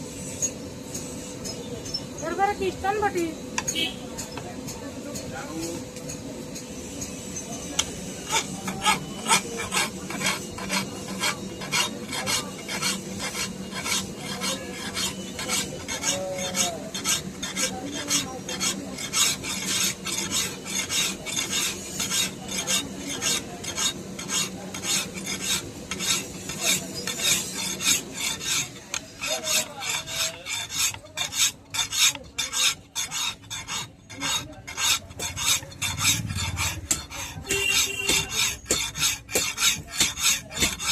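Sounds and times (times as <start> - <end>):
file rasping on steel blade: 0.1 - 40.9.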